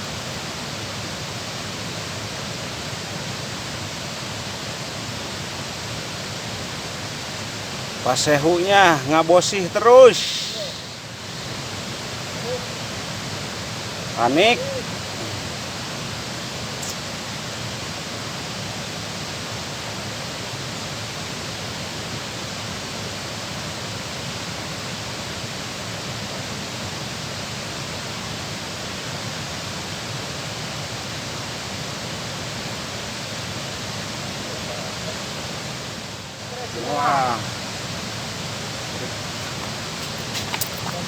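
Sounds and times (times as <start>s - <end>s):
water rushing through dam: 0.0s - 41.0s.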